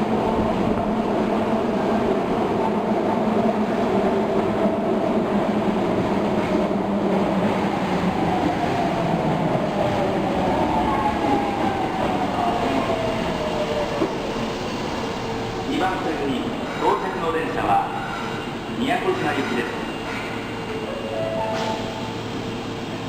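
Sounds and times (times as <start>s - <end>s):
subway train braking: 0.0s - 23.0s.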